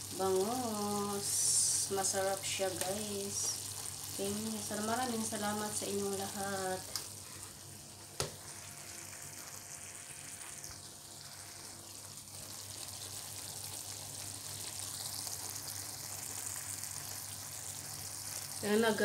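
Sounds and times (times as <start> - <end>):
fish sizzling in a frying pan: 0.0 - 19.0.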